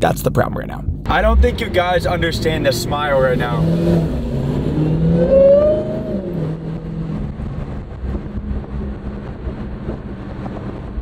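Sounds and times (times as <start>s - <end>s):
road noise: 0.9s - 11.0s
car engine from inside cabin: 1.0s - 11.0s.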